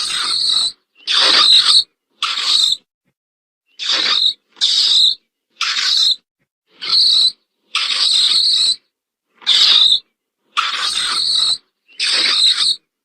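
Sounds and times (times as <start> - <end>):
short raspy animal calls: 0.0 - 2.9, 3.7 - 13.0.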